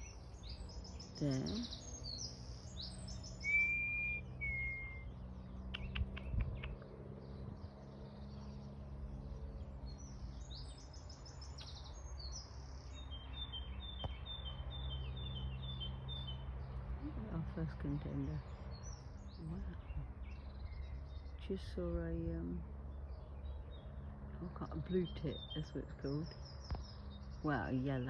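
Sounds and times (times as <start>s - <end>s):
birds singing: 0.0s - 28.0s.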